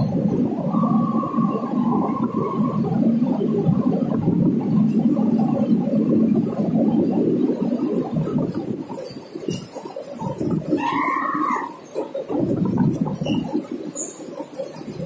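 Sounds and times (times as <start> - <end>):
rushing air in tunnel: 0.0 - 15.0
train wheels rumbling on rails: 0.0 - 15.0.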